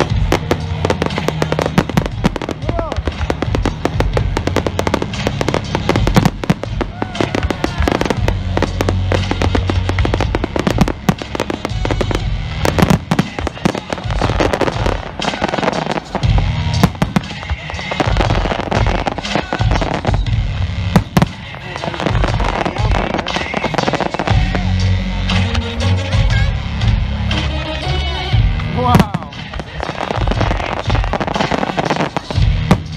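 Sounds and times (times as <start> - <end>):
fireworks bangs and crackles: 0.0 - 27.7, 28.3 - 32.9
music playing: 0.0 - 32.9.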